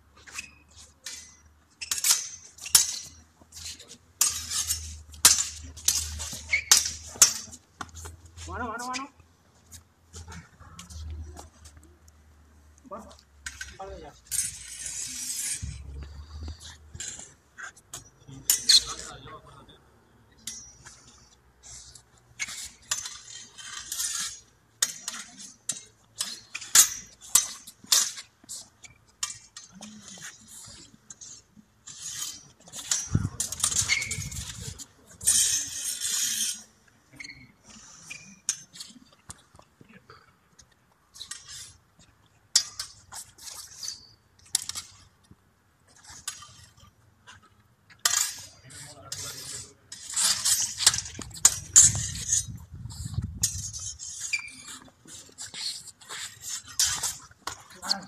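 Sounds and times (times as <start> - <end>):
steel sabres clashing: 0.2 - 8.1, 13.4 - 19.2, 20.3 - 39.2, 42.5 - 45.1, 46.0 - 58.0.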